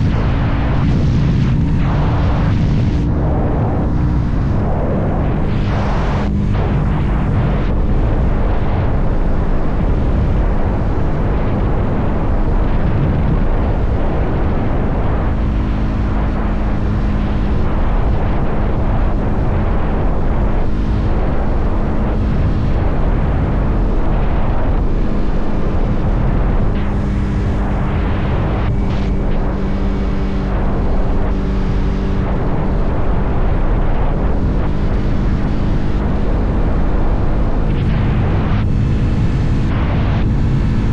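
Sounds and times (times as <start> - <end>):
motorcycle engine cruising: 0.0 - 13.0, 13.6 - 40.9
wind rumble on microphone: 0.0 - 40.9.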